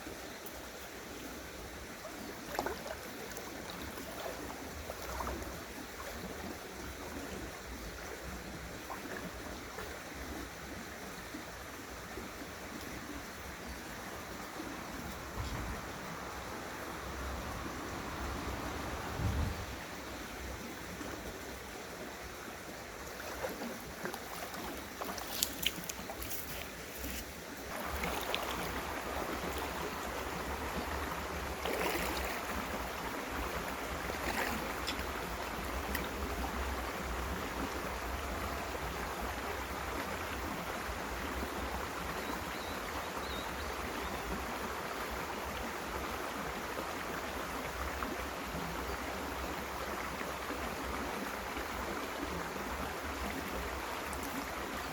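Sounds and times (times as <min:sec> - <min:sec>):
stream water rushing over rocks: 0:00.0 - 0:54.9.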